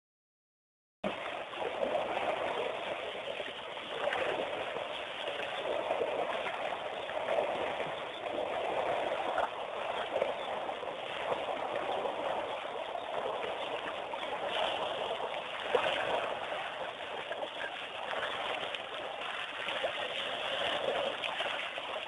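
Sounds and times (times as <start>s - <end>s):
running water trickling: 1.1s - 22.0s.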